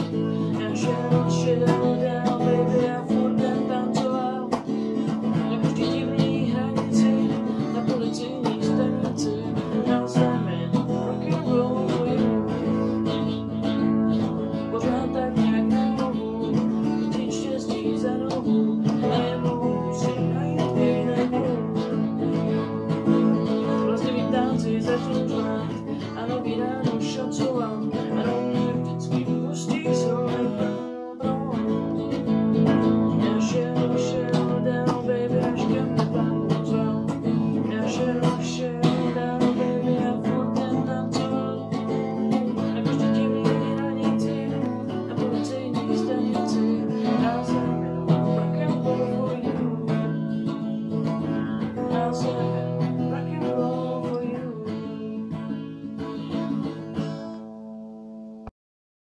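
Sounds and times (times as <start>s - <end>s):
strummed acoustic guitar: 0.0s - 58.5s.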